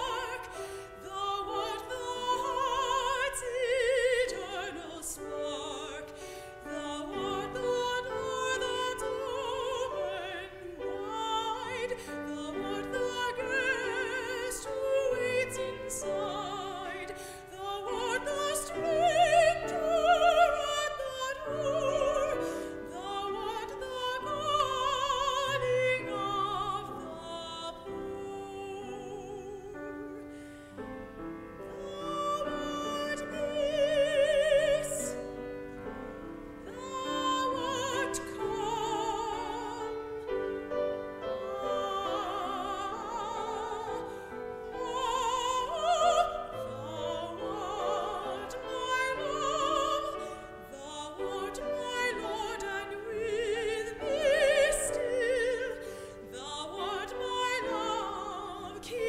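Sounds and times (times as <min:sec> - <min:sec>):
woman singing operatic: 0:00.0 - 0:30.3, 0:31.6 - 0:35.5, 0:36.6 - 0:59.0
piano accompaniment: 0:00.0 - 0:59.0.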